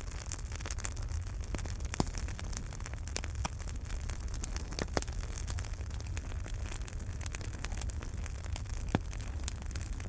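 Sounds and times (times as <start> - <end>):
fire pops and snaps: 0.0 - 10.0
low rumble of flames: 0.0 - 10.0
wood fire crackling: 0.0 - 10.0.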